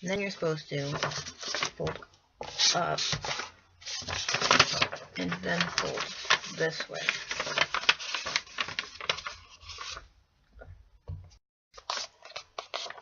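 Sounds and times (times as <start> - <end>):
paper folding and crackling: 0.1 - 10.1, 11.8 - 13.0.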